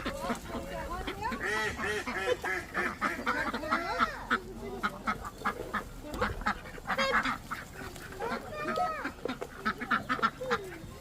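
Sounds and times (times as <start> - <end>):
birds chirping: 0.0 - 11.0
ducks quacking: 0.0 - 11.0.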